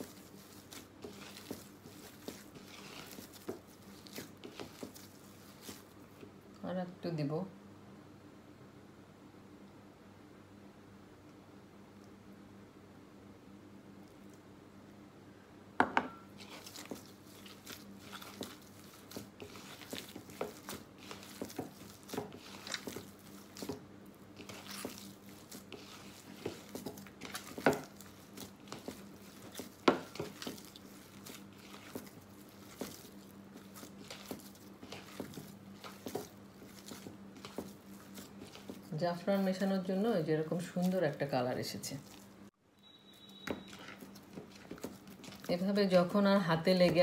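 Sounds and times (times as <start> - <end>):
hands kneading squishy dough: 0.0 - 7.4, 16.4 - 47.0.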